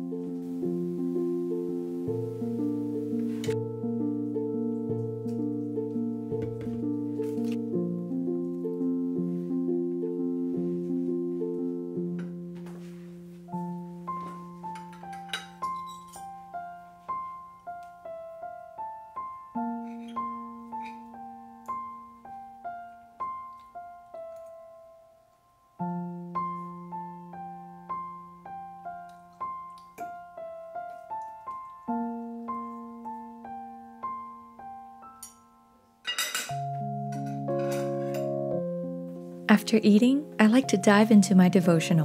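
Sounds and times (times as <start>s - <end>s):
soft solo piano music: 0.0s - 25.2s, 25.8s - 42.0s.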